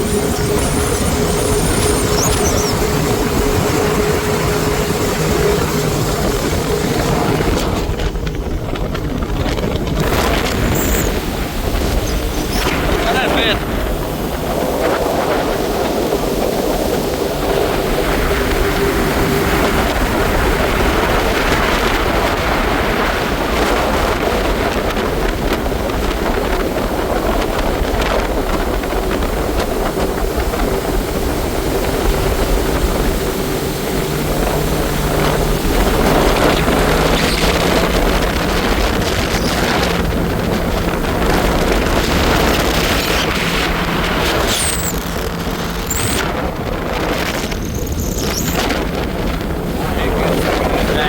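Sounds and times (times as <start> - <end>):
jet ski engine: 0.0 - 51.0
water splashing: 0.0 - 51.0
wind buffeting microphone: 0.0 - 51.0.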